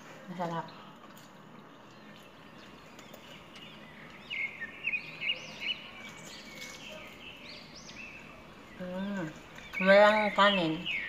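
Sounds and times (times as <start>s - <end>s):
low background noise: 0.0s - 11.0s
bird chirping: 0.6s - 11.0s.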